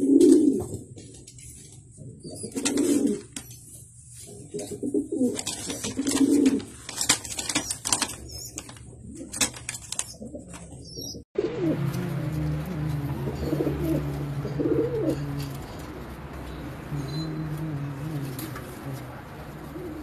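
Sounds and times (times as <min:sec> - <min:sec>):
pigeons cooing: 0:00.0 - 0:00.8, 0:02.2 - 0:03.5, 0:04.3 - 0:06.7, 0:08.3 - 0:20.0.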